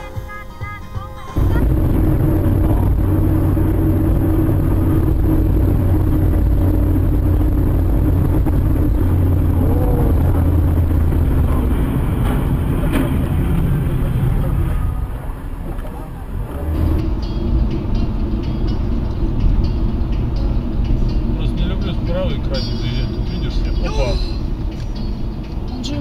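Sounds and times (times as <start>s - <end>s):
car engine hum: 0.0s - 26.0s
tyres on wet road: 1.0s - 26.0s.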